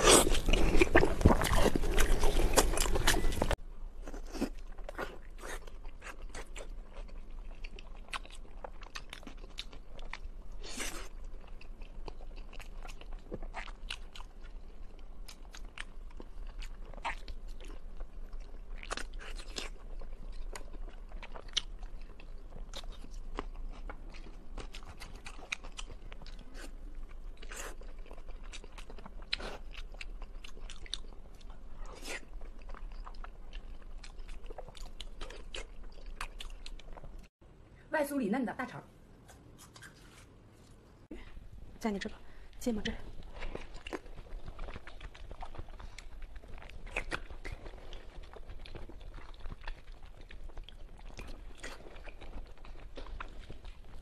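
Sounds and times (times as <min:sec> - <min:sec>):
person chewing meat: 0:00.0 - 0:37.3, 0:43.1 - 0:54.0.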